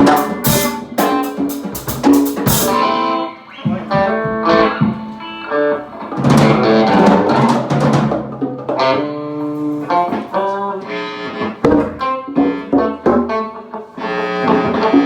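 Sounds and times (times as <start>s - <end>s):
drum kit: 0.0s - 13.4s
guitar playing: 0.0s - 15.0s.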